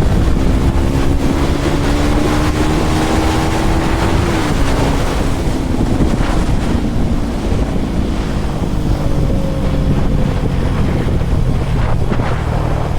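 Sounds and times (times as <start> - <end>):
motorcycle engine running: 0.0 - 12.9
wind buffeting microphone: 0.0 - 12.9.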